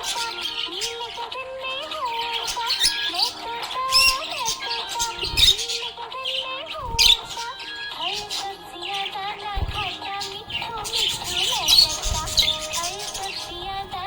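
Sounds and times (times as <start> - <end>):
budgerigars chirping: 0.0 - 1.3, 2.1 - 14.0
background music: 0.0 - 14.0.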